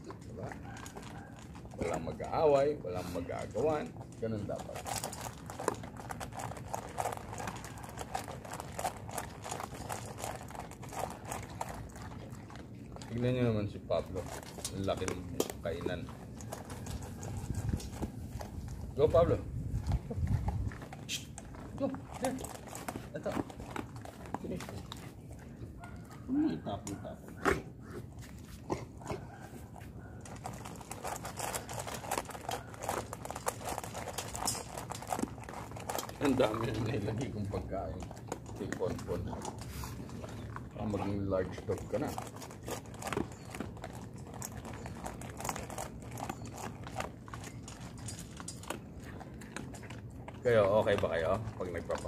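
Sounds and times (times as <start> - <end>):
dogs crunching dry kibble: 0.0 - 52.0.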